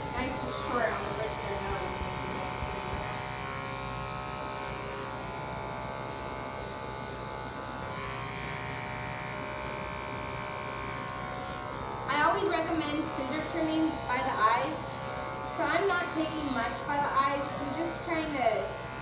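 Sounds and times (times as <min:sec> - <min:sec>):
electric clippers humming: 0:00.0 - 0:19.0.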